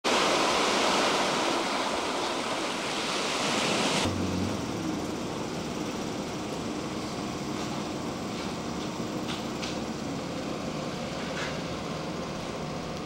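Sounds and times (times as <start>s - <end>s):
loud rushing train noise: 0.1s - 13.0s
low engine hum: 0.2s - 13.0s.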